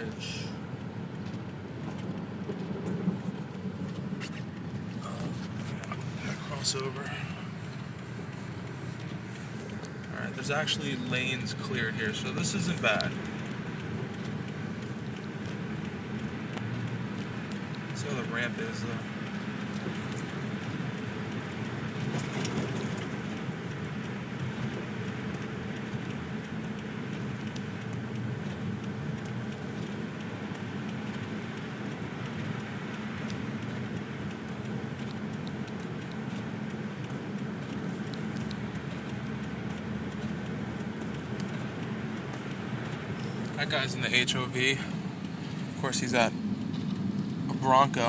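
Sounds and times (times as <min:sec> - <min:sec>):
car cabin engine and road noise: 0:00.0 - 0:48.0
faint ticks: 0:00.1 - 0:48.0.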